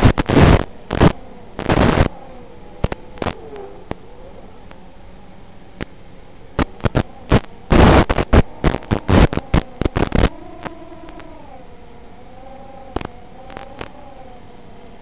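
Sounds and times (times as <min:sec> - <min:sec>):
loud radio crackling bursts: 0:00.0 - 0:15.0
steady hum under static: 0:00.0 - 0:15.0.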